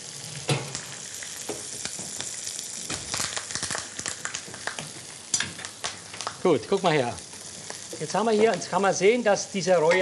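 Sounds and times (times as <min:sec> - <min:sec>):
fish frying in oil: 0:00.0 - 0:10.0.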